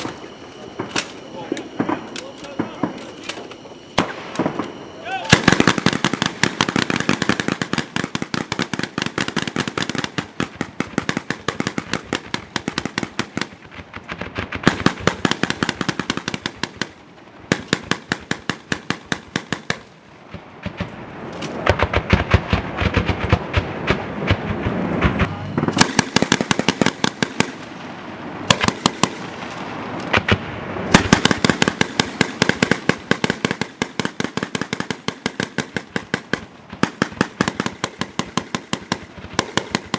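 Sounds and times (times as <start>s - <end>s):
grenade launcher fire and bursts: 0.0s - 39.9s.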